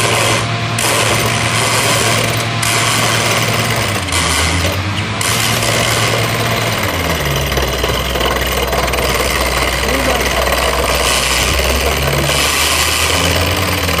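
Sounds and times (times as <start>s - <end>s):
drill rig engine running: 0.0s - 14.0s
rock drill hammering: 0.0s - 14.0s.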